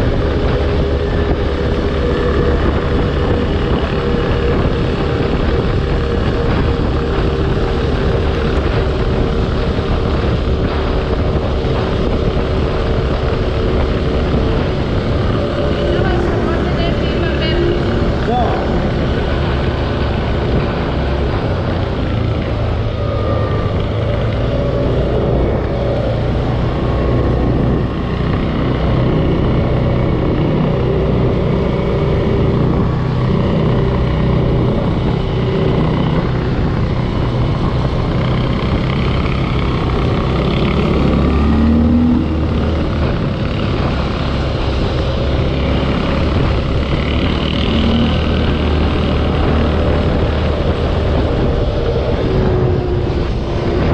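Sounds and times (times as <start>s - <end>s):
atv engine running: 0.0s - 53.9s
rushing noise: 0.0s - 53.9s.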